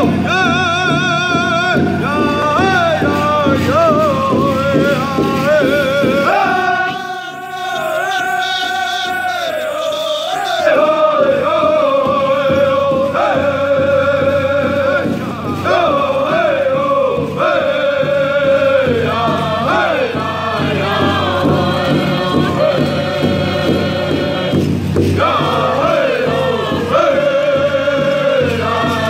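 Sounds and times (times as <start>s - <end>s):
large drum steady beat: 0.0s - 29.0s
men and women singing in unison: 0.0s - 29.0s.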